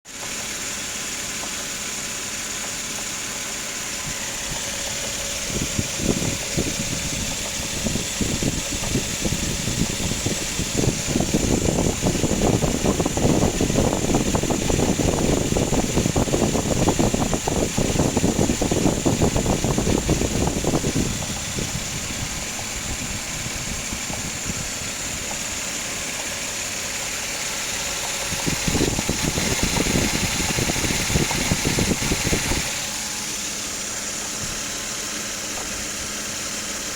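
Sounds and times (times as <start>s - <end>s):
car engine knocking rapidly: 0.1s - 36.9s.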